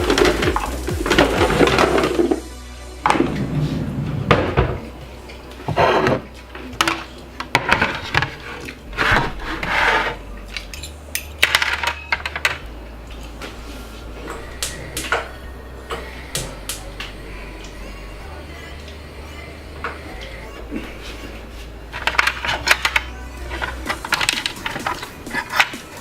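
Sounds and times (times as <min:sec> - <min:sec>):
scraping sounds: 0:00.0 - 0:26.0
crockery and cutlery clinking: 0:03.1 - 0:26.0.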